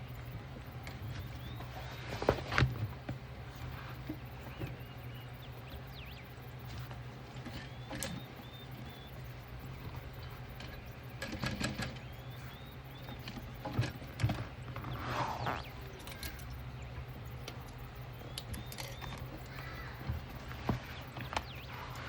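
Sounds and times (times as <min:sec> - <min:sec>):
faint bird chirps: 0:00.0 - 0:22.0
steady low hum: 0:00.0 - 0:22.0.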